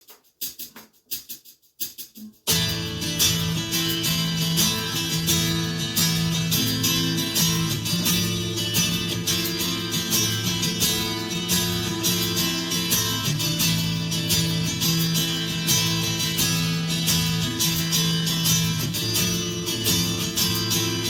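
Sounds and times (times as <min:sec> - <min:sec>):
strummed guitar chords: 0:02.5 - 0:21.0.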